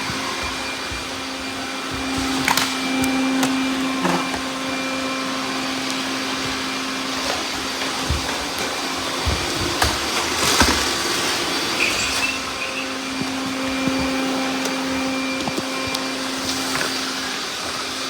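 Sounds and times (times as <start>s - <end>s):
robot vacuum whirring hum: 0.0s - 18.0s.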